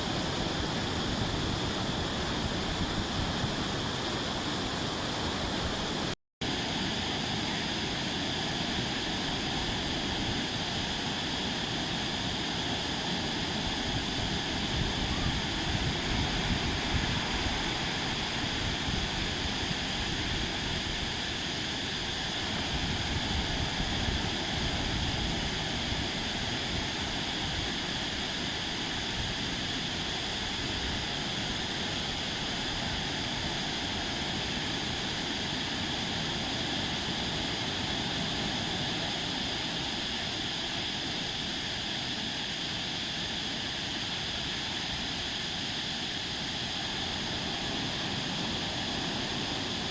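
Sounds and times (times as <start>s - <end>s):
sea surf washing on beach: 0.0s - 49.9s.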